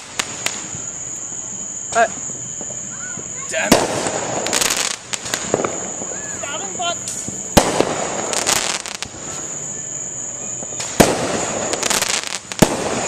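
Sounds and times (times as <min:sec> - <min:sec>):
firework bangs: 0:00.0 - 0:13.0
firework crackling bursts: 0:00.0 - 0:13.0.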